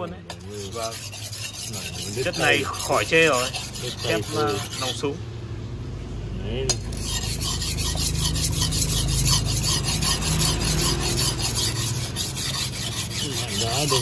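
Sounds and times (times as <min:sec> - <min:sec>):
knife rubbed on whetstone: 0:00.3 - 0:05.0, 0:06.7 - 0:14.0.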